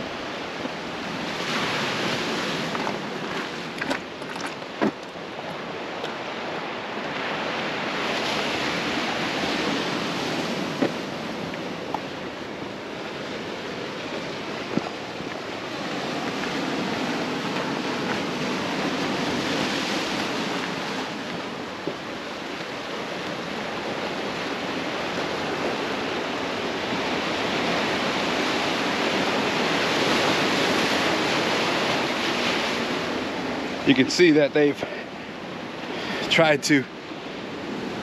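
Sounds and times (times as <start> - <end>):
surf breaking on rocks: 0.0 - 38.0.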